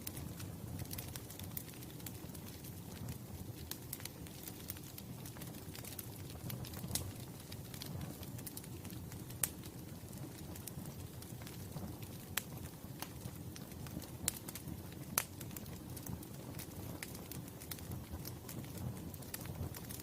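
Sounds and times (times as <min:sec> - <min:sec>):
sharp pops of fire: 0:00.0 - 0:20.0
wood fire crackling: 0:00.0 - 0:20.0.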